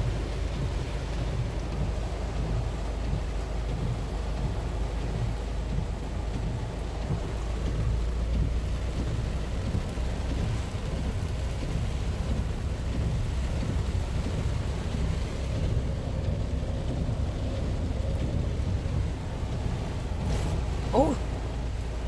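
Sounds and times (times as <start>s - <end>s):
constant low rumble: 0.0s - 22.0s
heavy rain hiss: 0.0s - 22.0s.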